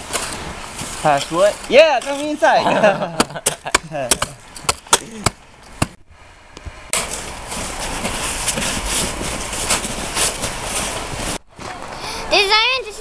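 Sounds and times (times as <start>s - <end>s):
rough rustling with crackles: 0.0s - 6.0s, 6.6s - 13.0s.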